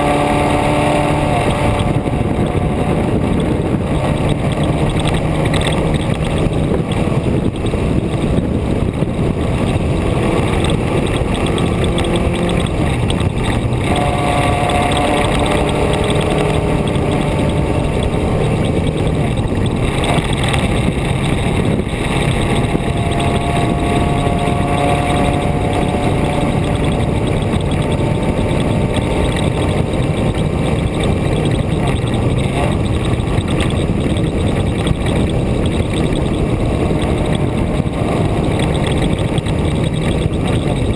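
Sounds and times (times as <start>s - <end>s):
loud steady rushing noise: 0.0s - 40.9s
vehicle engine speeding up and slowing: 0.0s - 40.9s.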